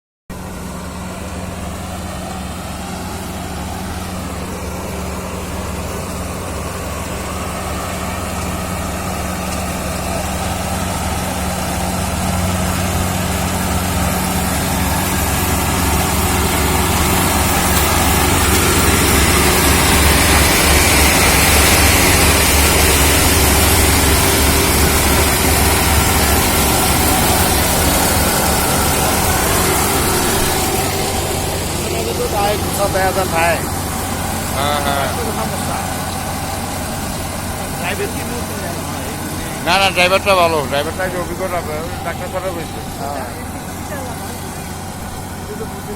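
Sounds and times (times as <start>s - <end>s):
heavy engine humming: 0.3s - 45.9s.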